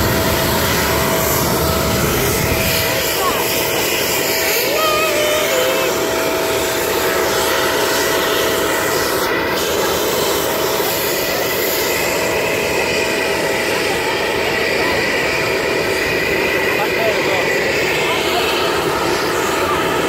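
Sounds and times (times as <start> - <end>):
jet engine noise: 0.0 - 20.0
thin steady whine: 0.0 - 20.0.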